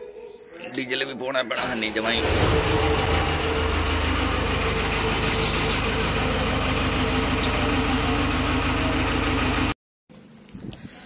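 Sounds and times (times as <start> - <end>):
diesel engine idling: 0.8 - 9.8.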